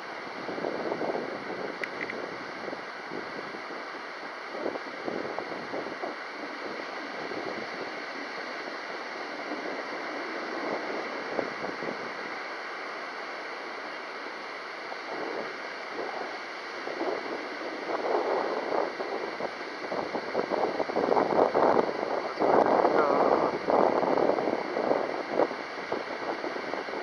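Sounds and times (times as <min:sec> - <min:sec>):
gusty wind buffeting microphone: 0:00.0 - 0:27.0.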